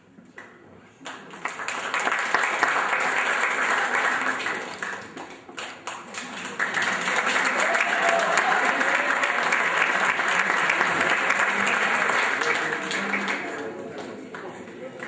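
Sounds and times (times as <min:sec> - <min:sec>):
audience applauding: 0:01.1 - 0:15.0.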